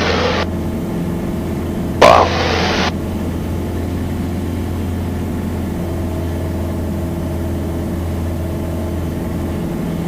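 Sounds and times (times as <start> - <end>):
propeller plane engine drone: 0.0 - 10.0.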